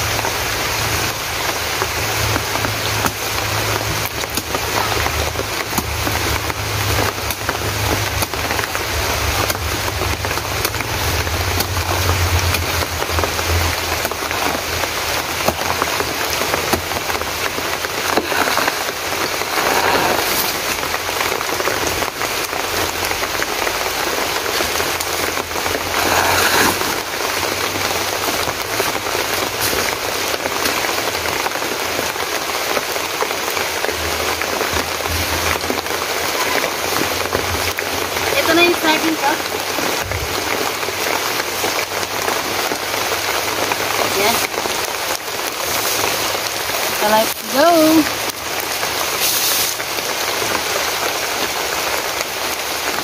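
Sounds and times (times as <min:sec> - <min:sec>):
pattering water: 0:00.0 - 0:53.0.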